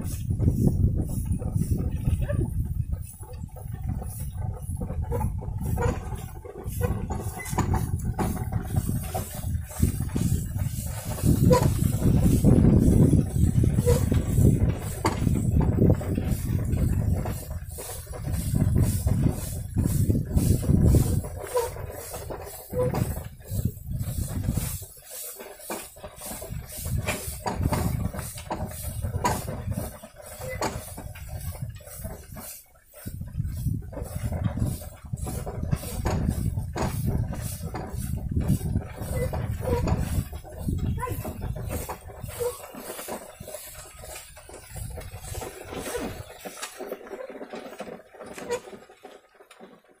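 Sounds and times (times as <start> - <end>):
cart wheels rumbling on dirt: 0.0 - 50.0.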